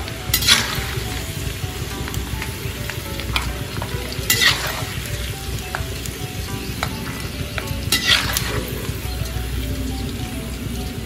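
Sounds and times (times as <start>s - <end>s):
peanuts sizzling in hot oil: 0.0s - 11.0s.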